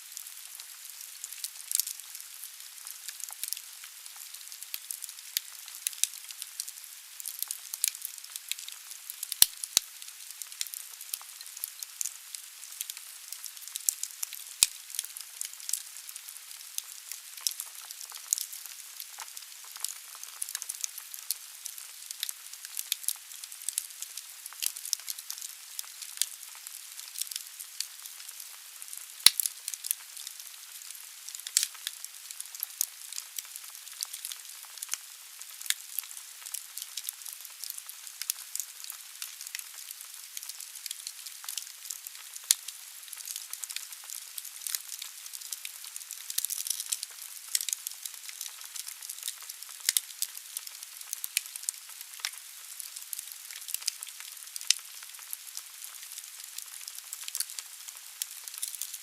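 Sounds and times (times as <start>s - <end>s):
firewood crackling in fireplace: 0.0s - 59.0s.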